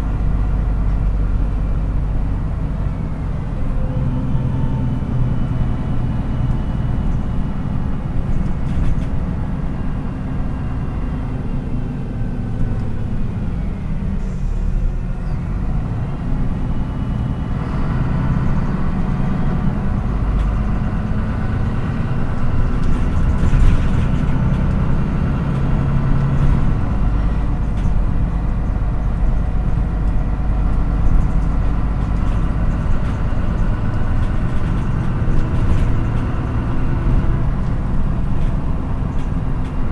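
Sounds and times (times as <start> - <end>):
bus engine heard on board: 0.0 - 39.9.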